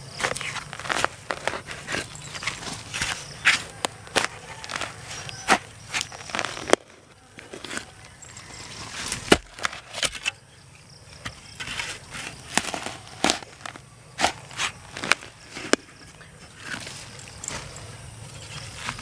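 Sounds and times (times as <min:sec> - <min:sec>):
spade crunching into soil: 0:00.0 - 0:10.4, 0:11.2 - 0:19.0
soil and leaves rustling: 0:00.0 - 0:19.0.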